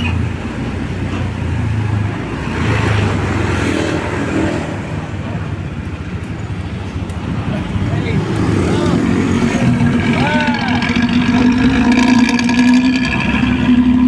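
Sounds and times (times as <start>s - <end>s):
diesel bus engine running: 0.0s - 14.0s.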